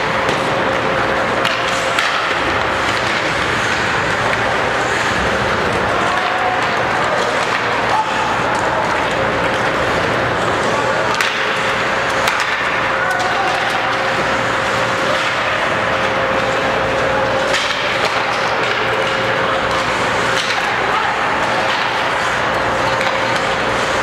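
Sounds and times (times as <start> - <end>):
hockey sticks and puck knocks: 0.0 - 24.0
skates scraping on ice: 0.0 - 24.0
spectators chattering: 0.0 - 24.0
steady hum: 0.0 - 24.0.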